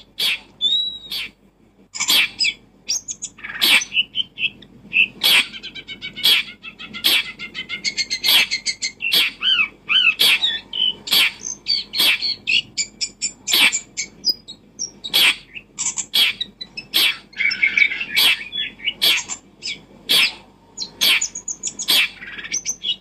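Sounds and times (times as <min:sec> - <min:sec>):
birds chirping and calling: 0:00.0 - 0:01.4, 0:02.0 - 0:23.0.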